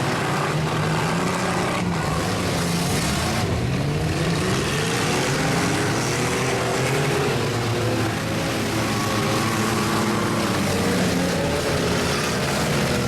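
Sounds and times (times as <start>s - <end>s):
car engines running: 0.0s - 13.0s
engine revving up: 0.0s - 13.0s.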